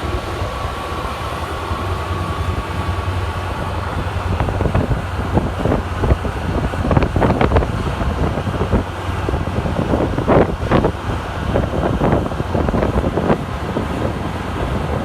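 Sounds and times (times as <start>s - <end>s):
low steady rumble: 0.0s - 15.0s
wind buffeting microphone: 0.0s - 15.0s.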